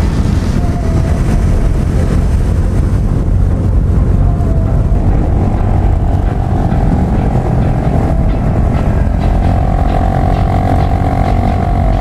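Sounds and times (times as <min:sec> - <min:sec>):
motorcycle engines humming: 0:00.0 - 0:12.0
whining engine tone: 0:00.0 - 0:12.0
wind rumble on microphone: 0:00.0 - 0:12.0.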